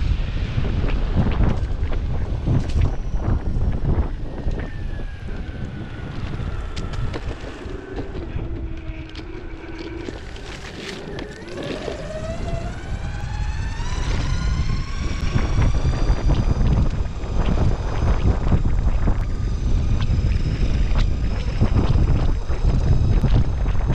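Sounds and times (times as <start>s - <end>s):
electric skateboard motors whining: 0.0s - 23.9s
wheels rumbling on asphalt: 0.0s - 23.9s
wind on microphone: 0.0s - 23.9s.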